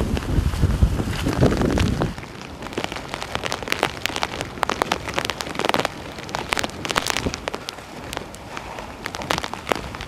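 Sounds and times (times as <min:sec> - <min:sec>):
heavy rain falling: 0:00.0 - 0:10.0
raindrops hitting near microphone: 0:00.0 - 0:10.0.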